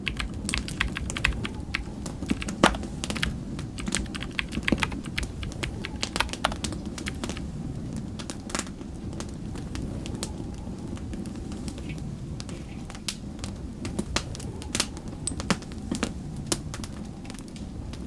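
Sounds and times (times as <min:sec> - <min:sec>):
low rumble of storm wind: 0:00.0 - 0:18.0
wood fire crackling and popping: 0:00.0 - 0:18.0.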